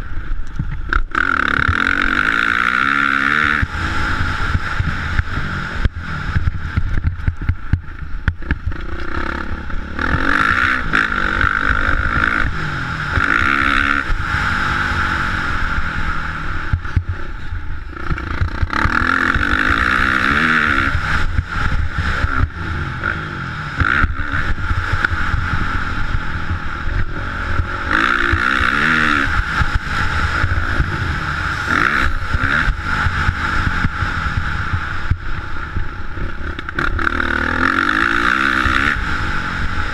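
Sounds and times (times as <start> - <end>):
motocross bike engine revving: 0.9 - 39.9.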